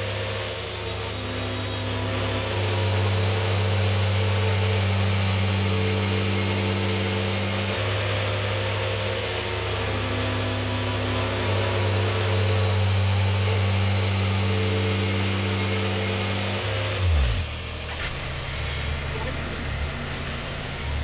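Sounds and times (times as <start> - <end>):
band blade whirring: 0.0 - 21.0
sawmill engine drone: 0.0 - 21.0.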